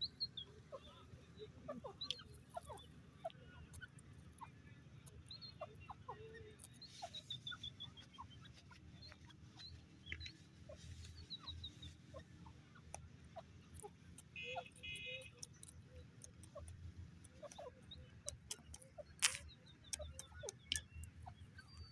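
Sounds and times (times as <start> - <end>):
bird clucks and chirps: 0.0 - 21.9.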